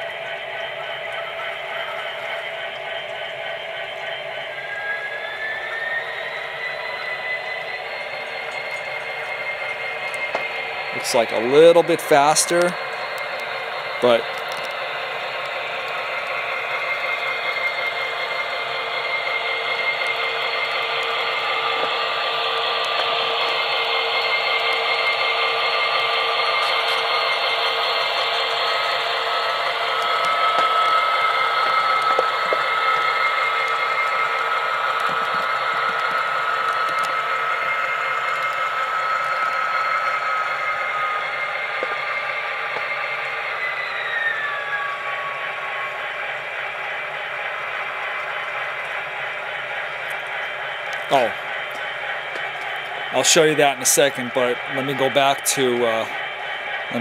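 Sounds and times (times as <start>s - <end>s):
model locomotive diesel engine sound: 0.0s - 57.0s
steady whining tones: 0.0s - 57.0s.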